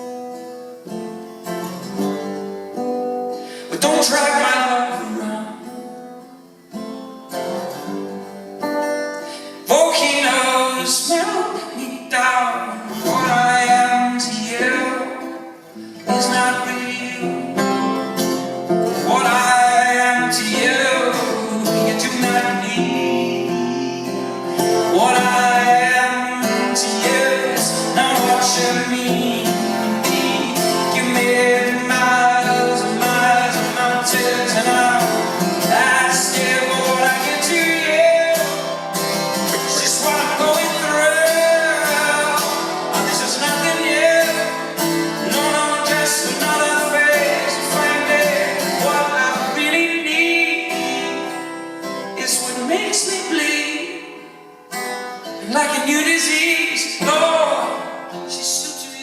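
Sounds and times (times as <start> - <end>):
strummed acoustic guitar: 0.0 - 59.0
person singing: 3.4 - 6.4, 9.2 - 51.4, 52.1 - 54.3, 55.3 - 59.0.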